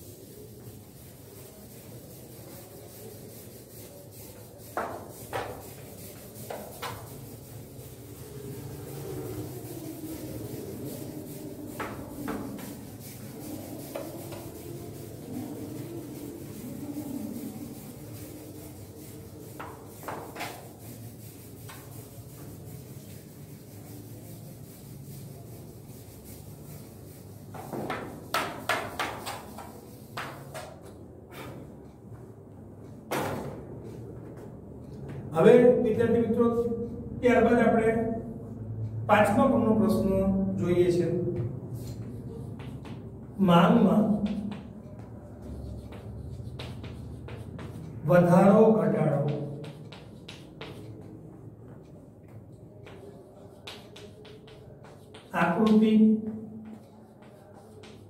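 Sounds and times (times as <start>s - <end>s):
duster swiping chalkboard: 0.0s - 32.0s, 40.9s - 58.0s.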